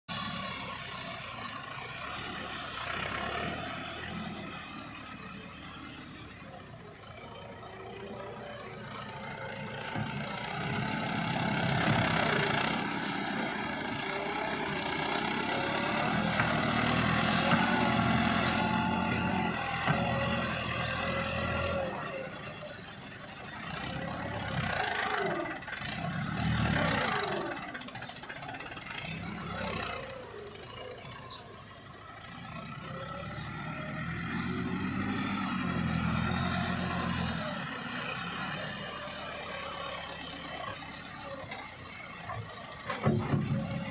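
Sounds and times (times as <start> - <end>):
tractor diesel engine revving: 0.1 - 43.9.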